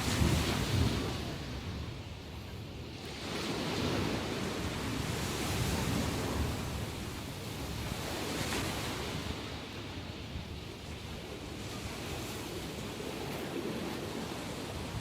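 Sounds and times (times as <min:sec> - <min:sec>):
sea waves breaking on shore: 0:00.0 - 0:02.2, 0:02.9 - 0:15.0.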